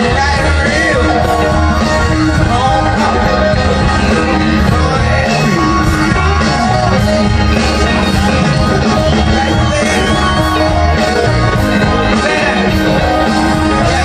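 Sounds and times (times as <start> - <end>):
drums: 0.0 - 14.0
electric guitar: 0.0 - 14.0
keyboards: 0.0 - 14.0.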